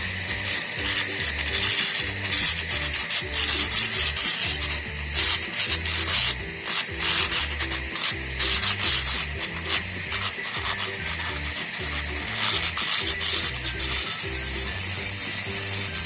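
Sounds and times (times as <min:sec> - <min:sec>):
laser hissing and crackling: 0:00.0 - 0:16.0.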